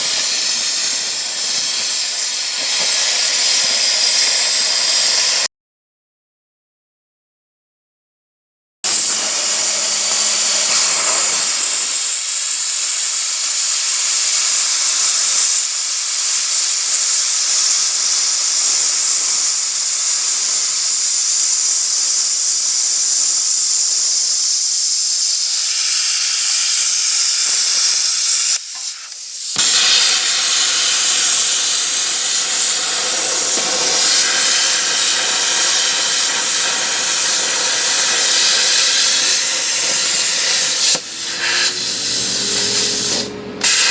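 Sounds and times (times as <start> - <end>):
plasma cutter torch hissing: 0.0 - 5.5, 8.9 - 43.9.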